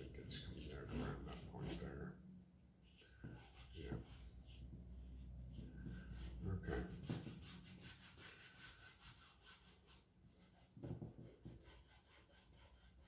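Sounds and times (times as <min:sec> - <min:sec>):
pencil scratching on paper: 0:00.0 - 0:01.9, 0:03.2 - 0:04.6, 0:05.5 - 0:13.0.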